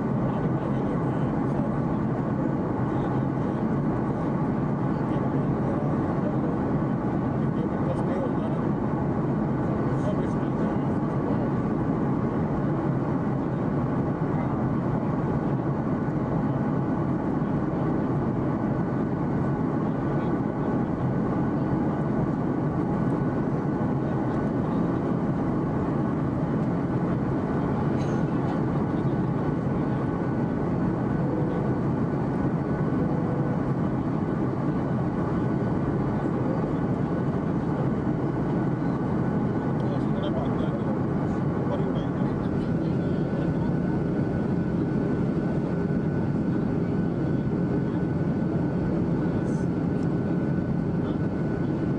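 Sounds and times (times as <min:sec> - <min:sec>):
airliner cabin roar: 0:00.0 - 0:51.9
faint steady whine: 0:00.0 - 0:51.9.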